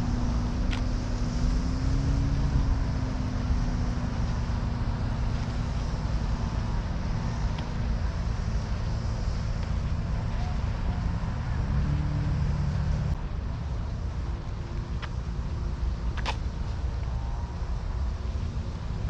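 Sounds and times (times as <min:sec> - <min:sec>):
wheels rolling on pavement: 0:00.0 - 0:19.0.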